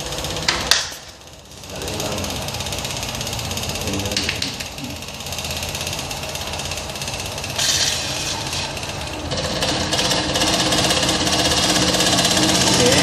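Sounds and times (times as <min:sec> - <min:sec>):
electric pump rattling: 0:00.0 - 0:13.0.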